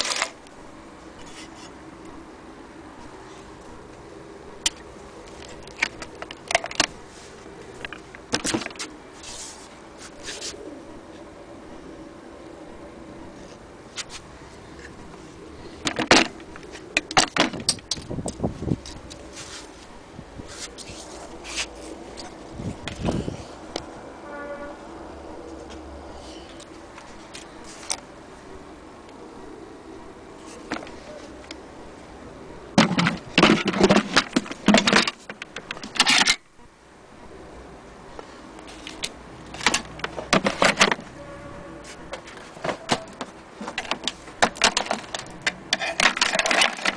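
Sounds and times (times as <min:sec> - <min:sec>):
faint steady background noise: 0:00.0 - 0:46.9.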